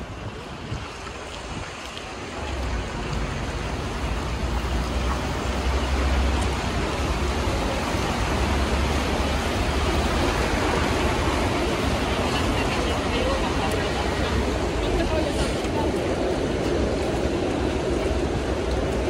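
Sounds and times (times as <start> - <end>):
city street noise: 0.0 - 19.0.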